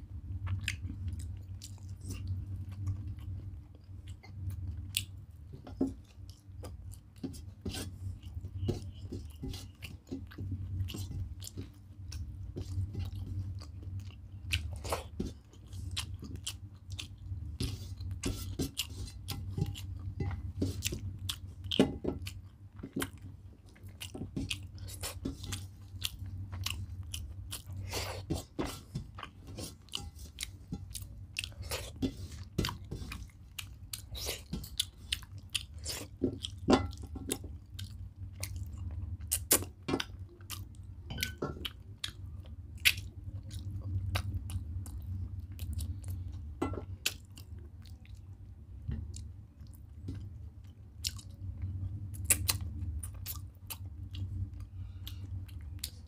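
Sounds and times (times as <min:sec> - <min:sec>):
steady low hum: 0:00.0 - 0:56.0
person chewing food: 0:00.2 - 0:56.0.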